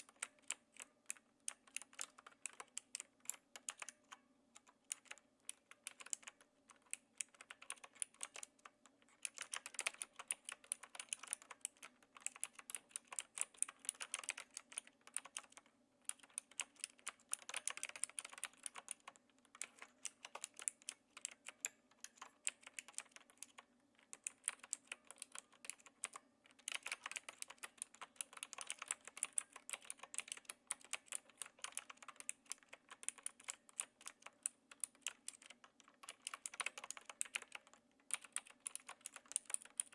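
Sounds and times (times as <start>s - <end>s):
clicky mechanical keyboard typing: 0.0s - 39.9s.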